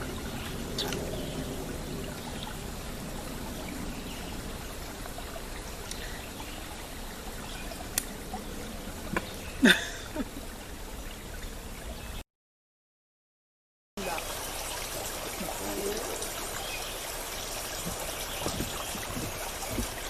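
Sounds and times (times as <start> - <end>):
creek water trickling: 0.0 - 12.2, 14.0 - 20.0.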